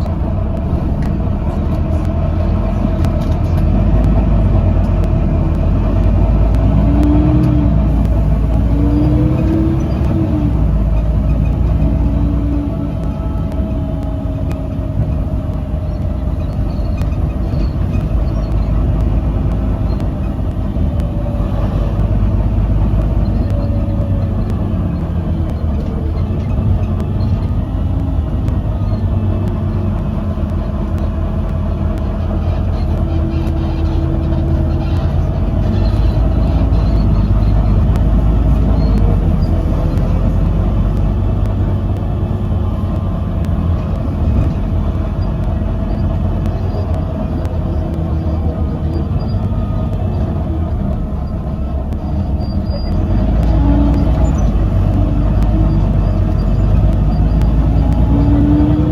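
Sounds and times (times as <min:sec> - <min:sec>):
bus diesel engine rumbling: 0:00.0 - 0:58.9
bus whine: 0:00.0 - 0:58.9.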